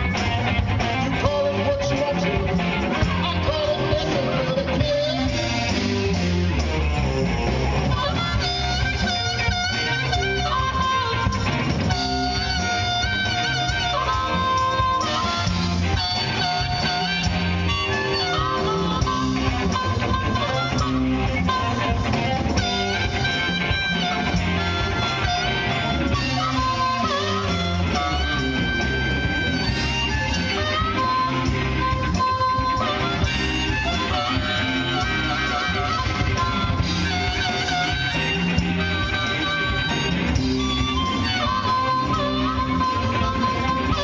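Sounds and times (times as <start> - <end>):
drums: 0.0 - 44.0
electric guitar bending notes: 0.0 - 44.0
live rock band playing: 0.0 - 44.0.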